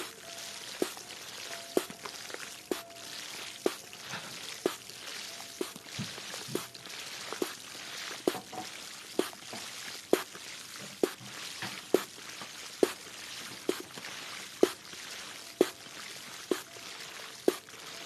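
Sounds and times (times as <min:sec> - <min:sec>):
sharp water drip plops: 0:00.0 - 0:18.0
water pouring or trickling: 0:00.0 - 0:18.0.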